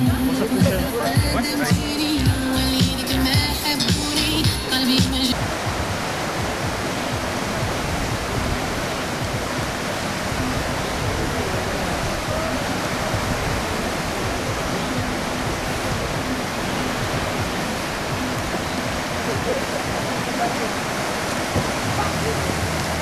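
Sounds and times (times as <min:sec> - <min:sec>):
rapids rushing over rocks: 0:00.0 - 0:23.0.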